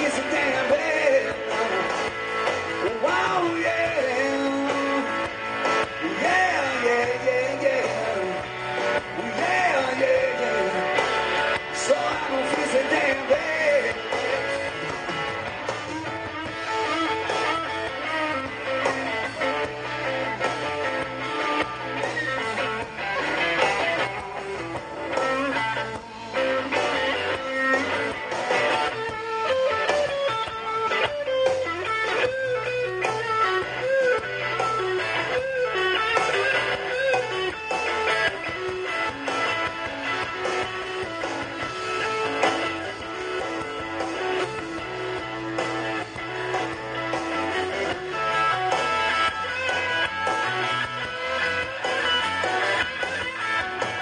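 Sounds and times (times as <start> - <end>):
bass guitar: 0.0 - 54.0
drums: 0.0 - 54.0
electric lead guitar: 0.0 - 54.0.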